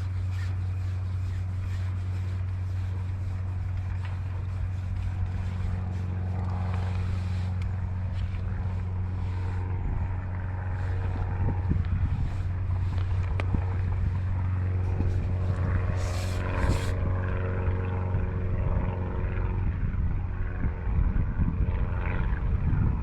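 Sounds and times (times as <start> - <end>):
low mechanical hum: 0.0 - 23.0
wind rumbling on microphone: 0.0 - 23.0.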